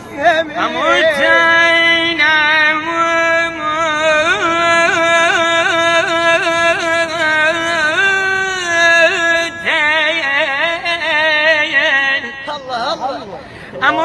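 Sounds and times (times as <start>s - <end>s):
man singing wordless melody: 0.0s - 14.0s.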